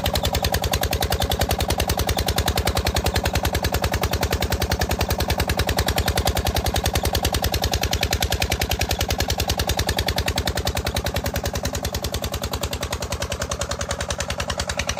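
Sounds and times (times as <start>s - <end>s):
diesel engine chugging: 0.0s - 14.9s.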